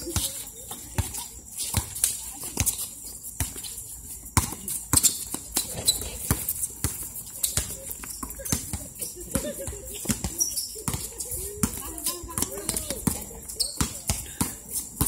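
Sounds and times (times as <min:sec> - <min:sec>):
basketball bouncing on concrete: 0:00.0 - 0:15.0
players' footsteps: 0:00.0 - 0:15.0.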